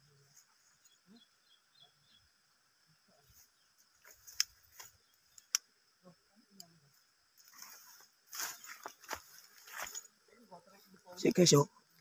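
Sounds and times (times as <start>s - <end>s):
soft chirps: 0.0s - 12.0s.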